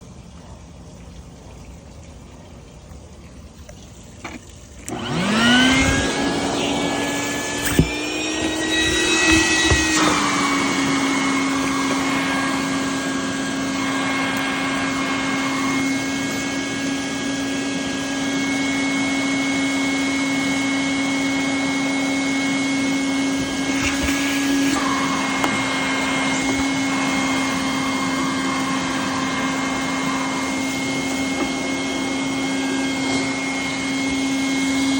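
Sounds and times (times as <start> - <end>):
shop vac motor whining: 4.2 - 34.9.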